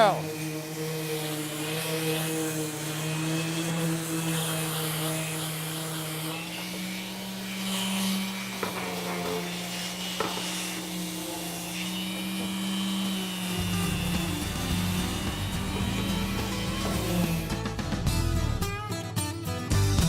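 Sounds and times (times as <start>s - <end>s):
dust extractor vacuum hiss: 0.0s - 18.2s
orbital sander on wood: 0.0s - 18.7s.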